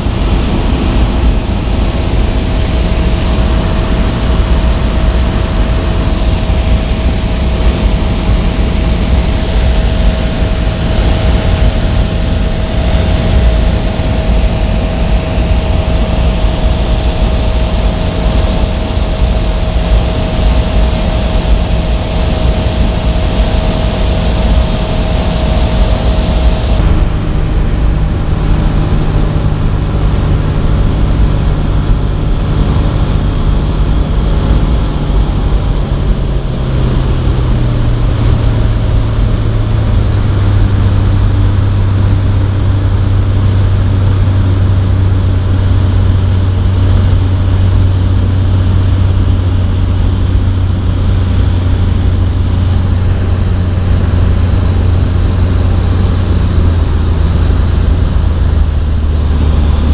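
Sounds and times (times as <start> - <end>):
light aircraft engine droning: 0.0 - 59.9
wind noise: 0.0 - 59.9.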